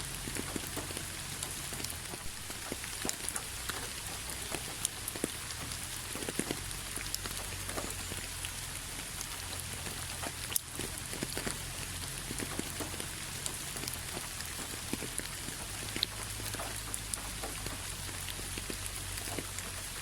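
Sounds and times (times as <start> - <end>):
rain on a hard surface: 0.0 - 20.0.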